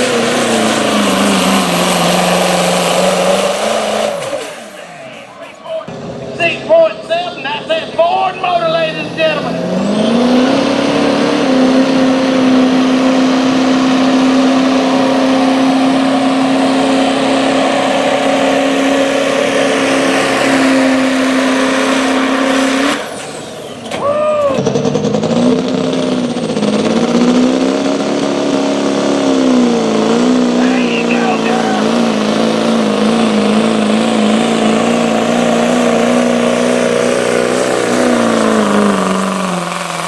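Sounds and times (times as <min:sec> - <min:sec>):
diesel engine rising and falling: 0:00.0 - 0:40.0
diesel pickup engine at full throttle: 0:00.0 - 0:40.0.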